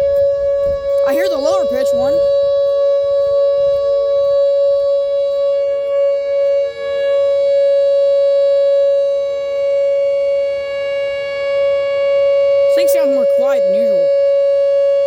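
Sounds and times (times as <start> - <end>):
electronic warning siren tone: 0.0 - 15.0.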